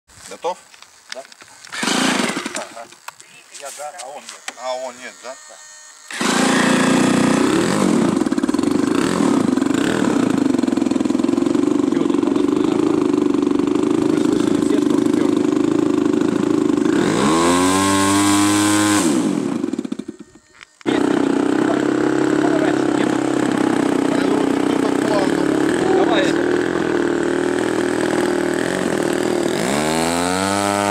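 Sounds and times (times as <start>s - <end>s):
model airplane engine running: 4.2s - 30.9s.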